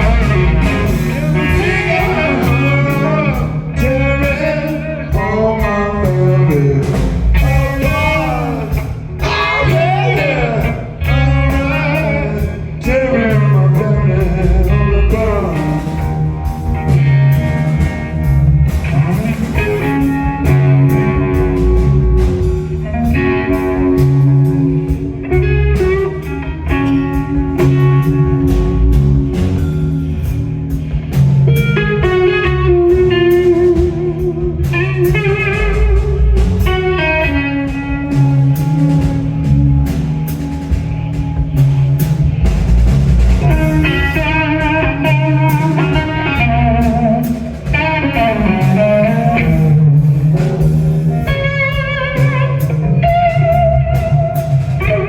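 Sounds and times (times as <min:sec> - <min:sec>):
bass guitar: 0:00.0 - 0:55.0
drum kit: 0:00.0 - 0:55.0
electric guitar bending notes: 0:00.0 - 0:55.0.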